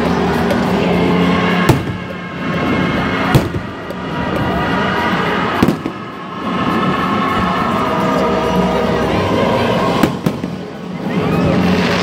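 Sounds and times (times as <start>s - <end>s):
fireworks display din: 0.0s - 12.0s.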